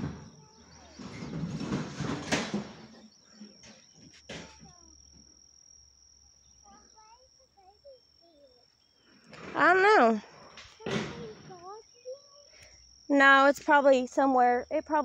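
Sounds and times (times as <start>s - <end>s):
faint distant voices: 0.0s - 5.3s, 6.4s - 14.7s
high-pitched insect drone: 2.4s - 15.0s.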